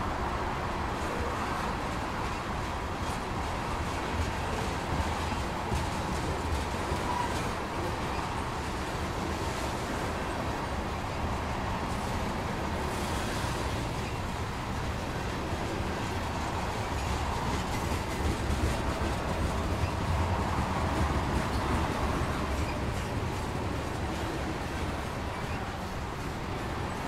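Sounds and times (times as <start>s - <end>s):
freight train wheels rumbling on rail: 0.0s - 27.0s.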